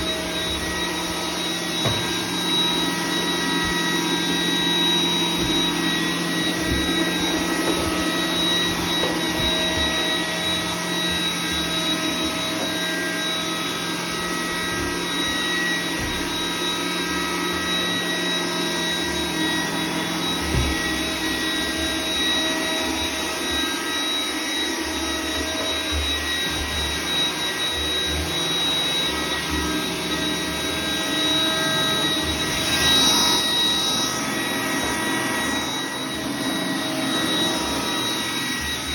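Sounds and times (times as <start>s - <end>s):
robot vacuum motor whine: 0.0s - 38.9s.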